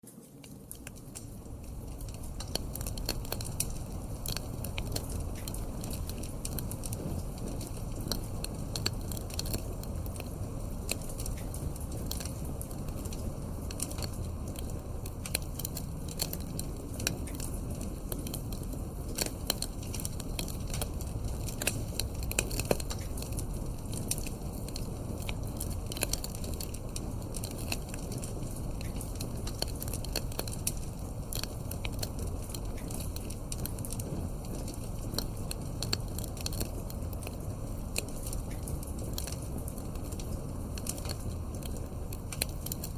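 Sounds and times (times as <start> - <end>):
wood fire crackling: 0.0 - 42.9
low rush of burning fire: 0.2 - 42.9.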